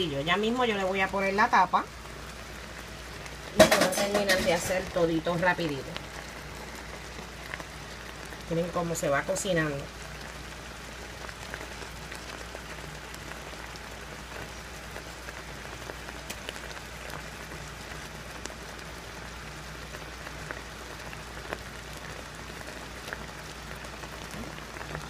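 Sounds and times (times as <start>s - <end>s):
sauce simmering and bubbling in skillet: 0.0s - 25.0s.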